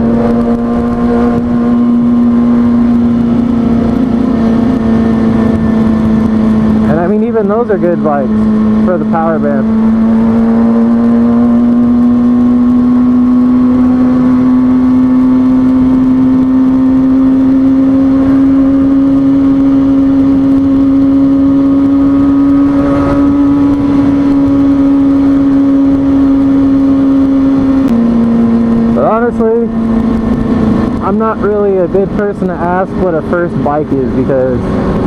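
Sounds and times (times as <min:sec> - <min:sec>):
motorcycle engine cruising: 0:00.0 - 0:35.0.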